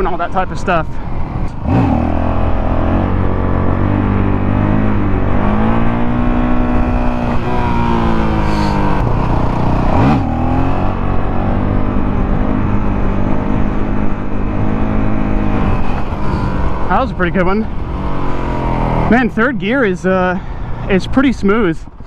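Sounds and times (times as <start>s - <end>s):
motorcycle engine under throttle: 0.0s - 21.6s.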